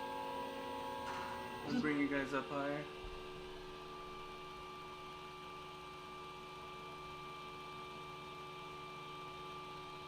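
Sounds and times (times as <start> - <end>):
printer fans and motors humming: 0.0 - 10.0.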